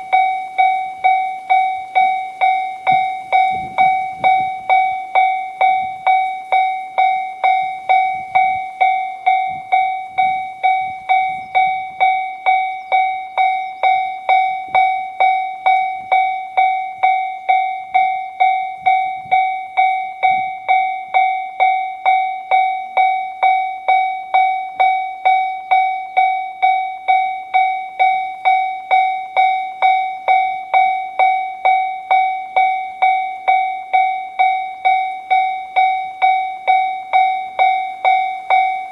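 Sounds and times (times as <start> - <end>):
level-crossing warning bell: 0.0 - 38.9.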